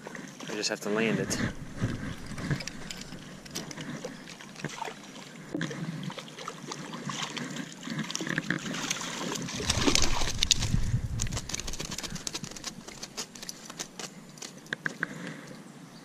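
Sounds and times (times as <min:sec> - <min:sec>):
stream water trickling and splashing: 0:00.0 - 0:14.5.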